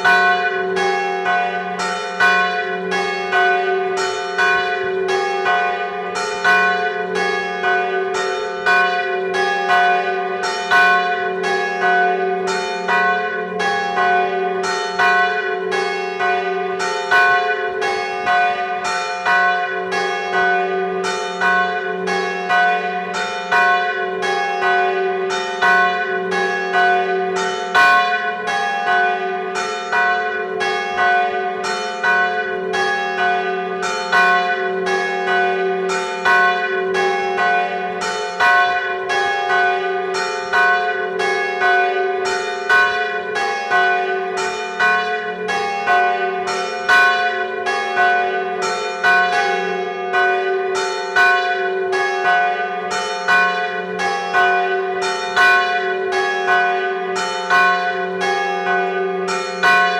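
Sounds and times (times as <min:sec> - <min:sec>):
church bells tolling: 0:00.0 - 0:59.9.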